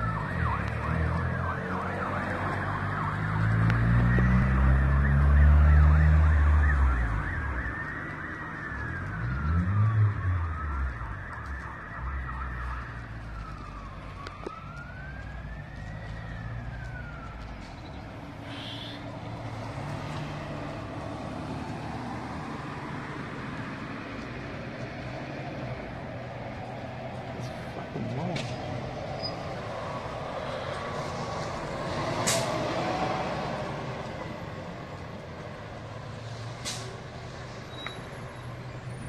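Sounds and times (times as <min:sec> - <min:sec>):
emergency vehicle siren wailing: 0:00.0 - 0:39.0.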